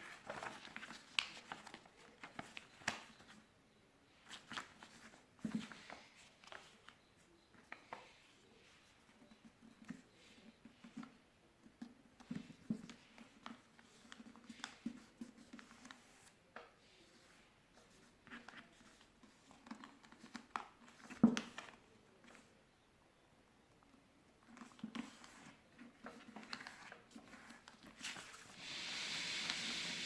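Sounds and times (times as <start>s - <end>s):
paper crinkling and folding: 0.0s - 3.5s, 4.1s - 16.4s, 17.0s - 22.5s, 24.4s - 29.6s.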